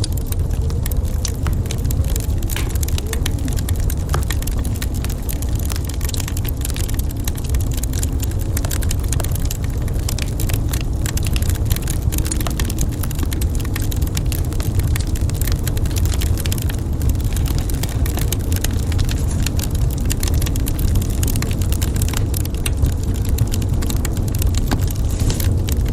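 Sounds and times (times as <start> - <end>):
low rumble: 0.0 - 25.9
wood fire crackling: 0.0 - 25.9.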